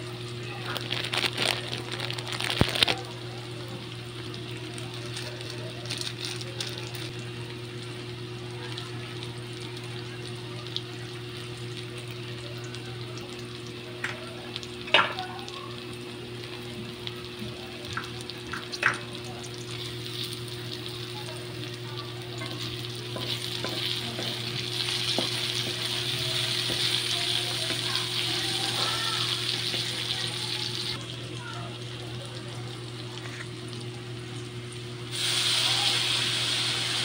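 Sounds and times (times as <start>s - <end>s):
food sizzling in oil: 0.0s - 37.0s.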